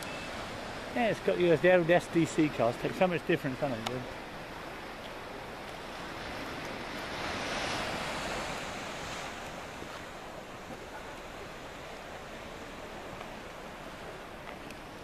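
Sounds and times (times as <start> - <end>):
sea surf washing on rocks: 0.0 - 15.0.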